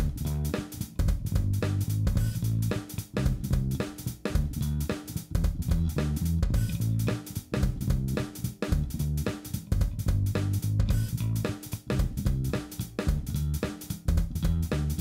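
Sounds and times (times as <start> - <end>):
bass line: 0.0 - 15.0
drum kit beat: 0.0 - 15.0.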